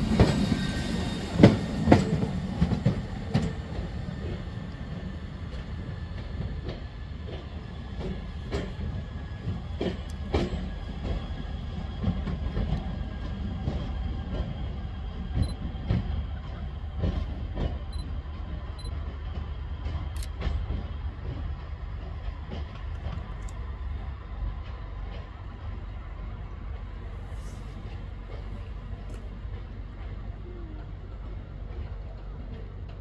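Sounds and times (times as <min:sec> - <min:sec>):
train wheels clacking on rail joints: 0:00.0 - 0:27.0, 0:27.7 - 0:33.0.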